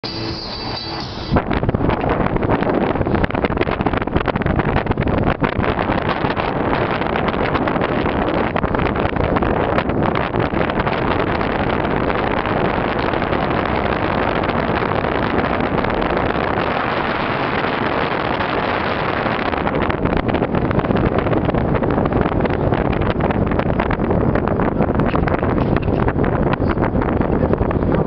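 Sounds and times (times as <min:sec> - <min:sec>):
car engine hum: 0:00.0 - 0:28.0
road and wind noise: 0:00.0 - 0:28.0.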